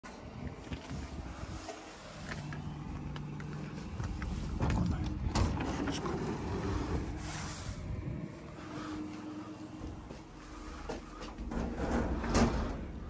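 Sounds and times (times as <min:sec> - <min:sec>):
vehicle engine humming: 0:00.0 - 0:11.7.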